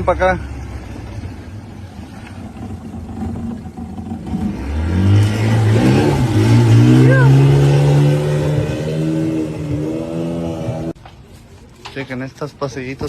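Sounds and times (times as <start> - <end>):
outboard motor revving: 0.0 - 11.0.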